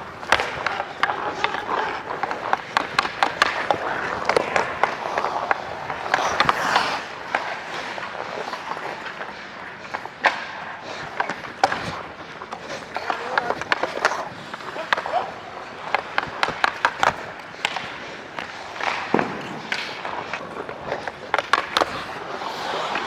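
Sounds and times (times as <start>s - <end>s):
ice skates scraping: 0.0s - 23.0s
sticks and puck clacking: 0.0s - 23.0s.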